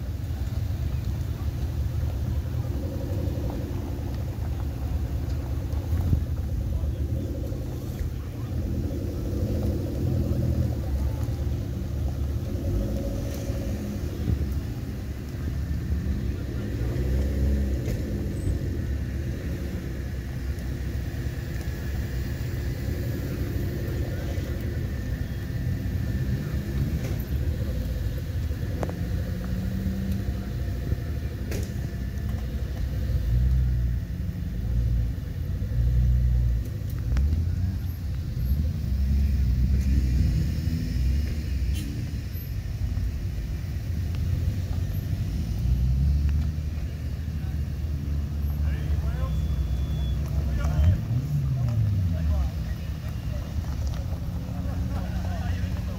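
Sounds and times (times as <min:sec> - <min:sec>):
tyres rolling on gravel: 0:00.0 - 0:55.9
vehicle engines rumbling: 0:00.0 - 0:55.9.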